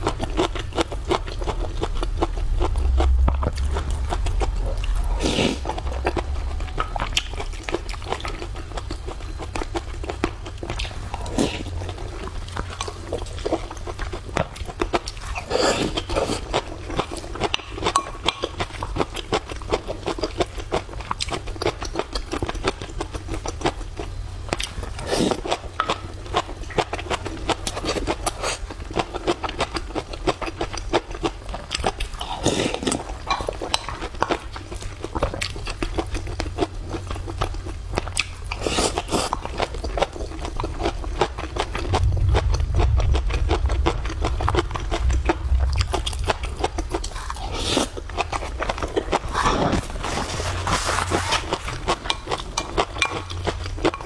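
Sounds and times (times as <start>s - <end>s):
person chewing and crunching: 0.0s - 54.0s
steady low hum: 0.0s - 54.0s.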